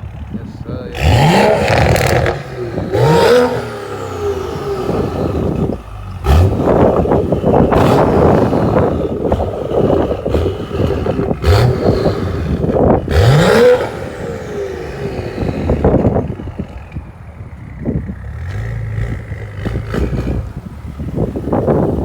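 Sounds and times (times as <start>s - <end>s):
car engine revving: 0.0s - 22.0s
exhaust pops and crackles: 0.0s - 22.0s.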